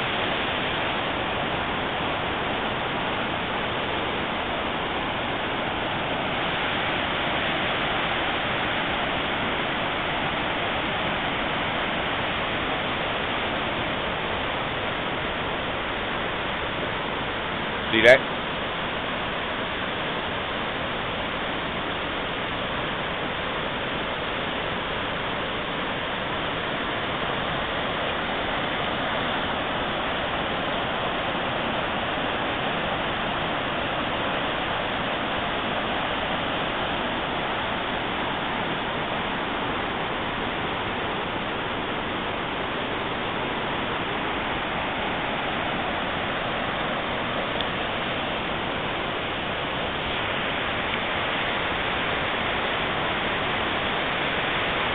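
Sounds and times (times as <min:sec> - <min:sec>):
river rushing over boulders: 0:00.0 - 0:54.9.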